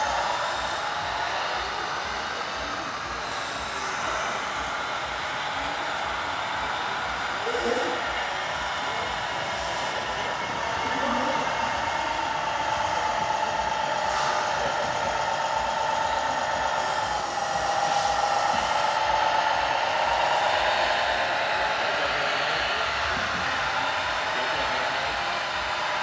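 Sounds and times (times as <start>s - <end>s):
electric motors whining: 0.0s - 26.0s
high hiss: 0.0s - 26.0s.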